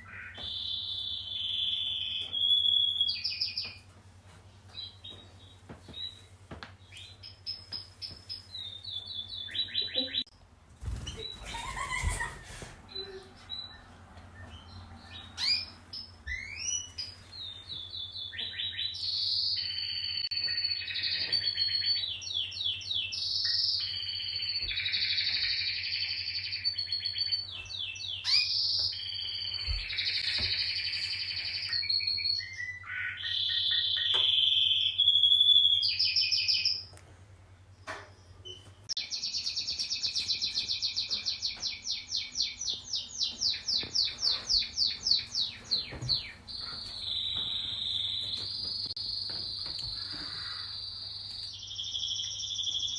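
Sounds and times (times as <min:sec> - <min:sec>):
canary singing trills: 0:00.0 - 0:03.8, 0:04.7 - 0:36.9, 0:38.4 - 0:52.9.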